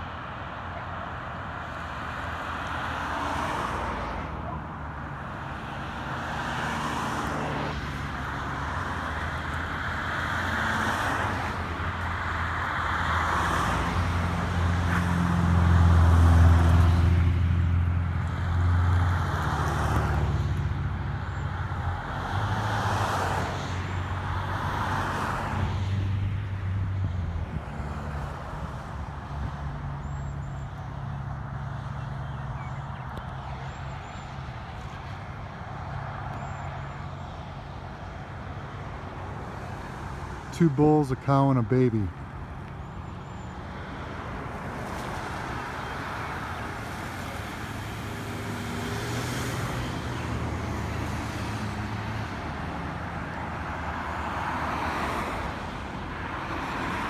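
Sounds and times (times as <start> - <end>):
tyre and road noise: 0.0 - 57.0.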